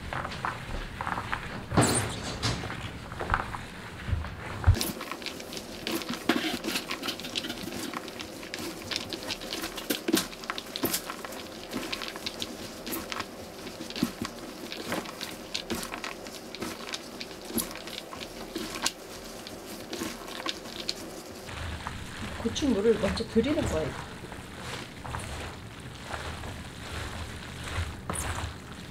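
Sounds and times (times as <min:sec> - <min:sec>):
wet rustling of radish strips: 0:02.7 - 0:28.9.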